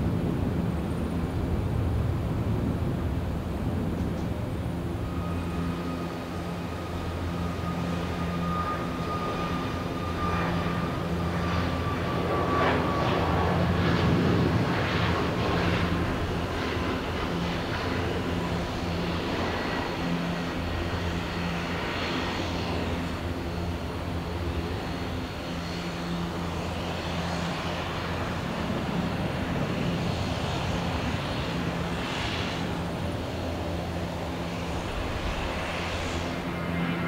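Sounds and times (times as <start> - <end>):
airliner engines running: 0.0 - 37.0.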